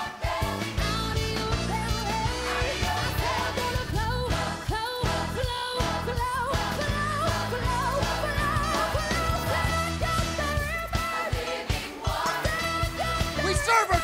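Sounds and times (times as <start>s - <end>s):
band playing worship music: 0.0s - 14.0s.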